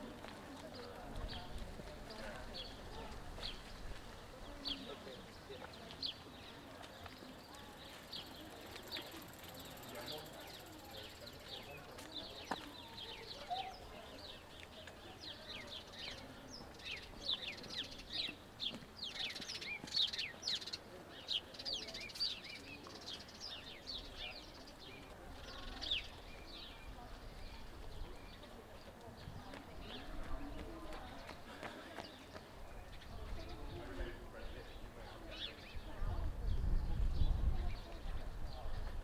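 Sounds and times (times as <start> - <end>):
small songbirds chirping: 2.2 - 39.0.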